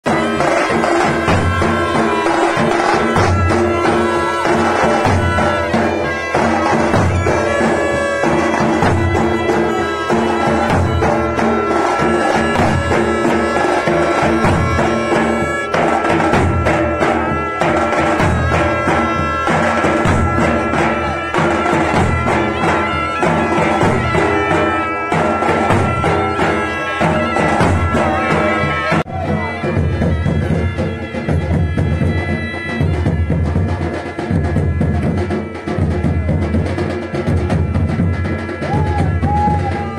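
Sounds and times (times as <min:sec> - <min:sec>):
dhol drums beaten with sticks: 0:00.0 - 0:39.9
reedy shehnai melody: 0:00.0 - 0:39.9.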